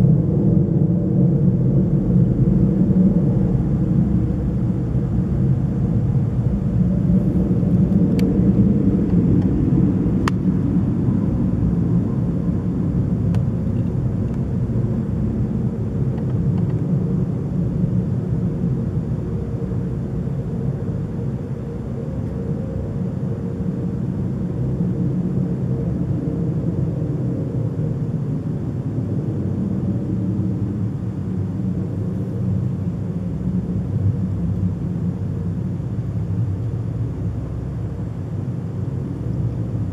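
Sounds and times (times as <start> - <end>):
low droning rumble with humming: 0.0 - 39.9.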